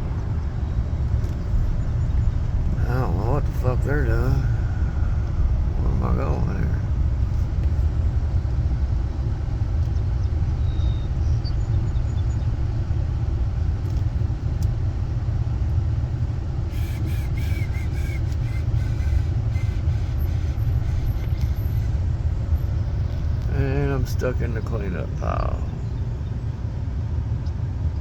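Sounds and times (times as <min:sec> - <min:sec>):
car interior driving rumble: 0:00.0 - 0:28.0.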